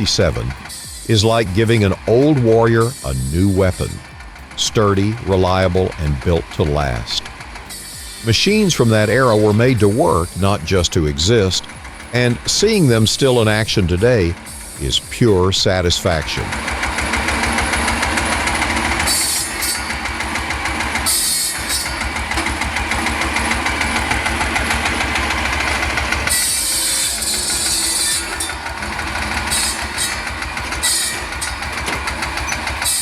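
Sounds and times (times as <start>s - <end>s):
saw blade cutting wood: 0.0s - 33.0s
tractor engine running: 0.0s - 33.0s.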